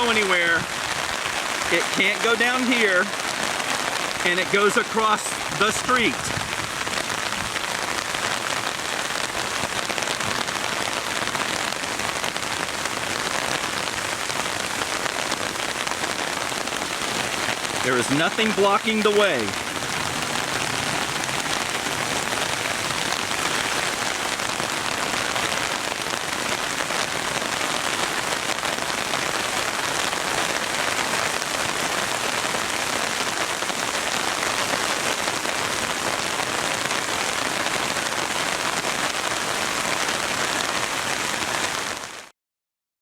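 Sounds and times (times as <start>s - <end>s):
heavy rain on pavement: 0.0s - 42.3s.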